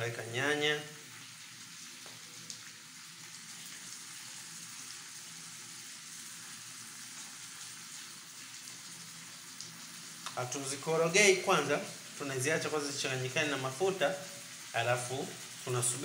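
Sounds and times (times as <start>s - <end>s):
oil sizzling in frying pan: 0.8s - 16.0s.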